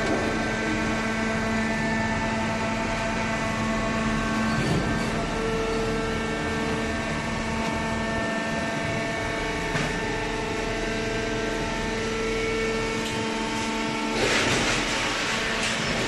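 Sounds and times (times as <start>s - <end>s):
machine hum with held tones: 0.0s - 16.0s.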